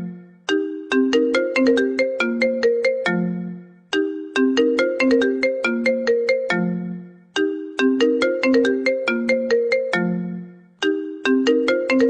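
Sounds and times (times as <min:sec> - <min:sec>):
phone ringtone melody: 0:00.0 - 0:12.0.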